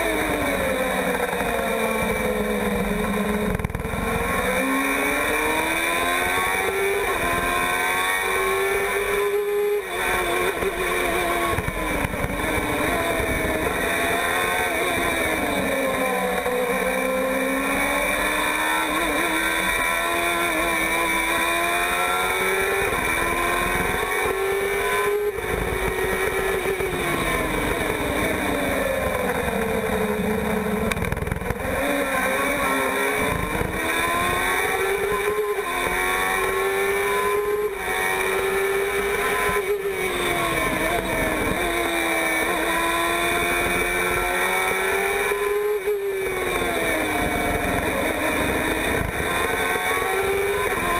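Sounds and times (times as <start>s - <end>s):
race car engine revving: 0.0s - 50.9s.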